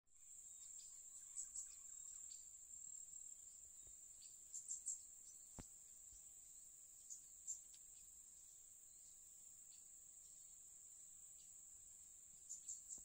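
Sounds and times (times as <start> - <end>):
insect chorus trilling: 0.2 - 13.0
short insect chirps: 0.2 - 13.0.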